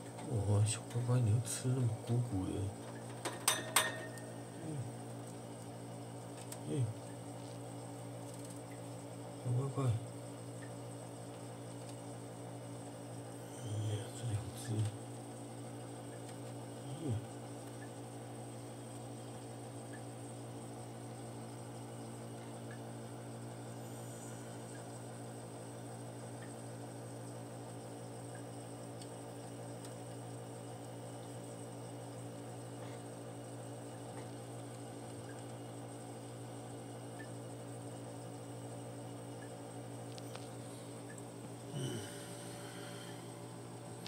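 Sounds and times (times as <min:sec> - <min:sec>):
faint high whine: 0:00.0 - 0:05.7, 0:06.4 - 0:27.4, 0:32.8 - 0:44.0
low electrical hum: 0:00.0 - 0:44.0.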